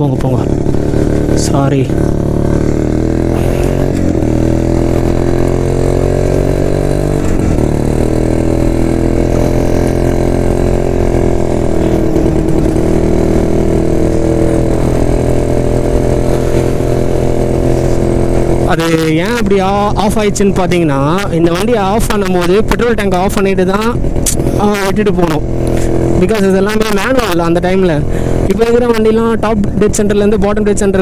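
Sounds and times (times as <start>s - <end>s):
two-stroke motorcycle engine running: 0.0s - 31.0s.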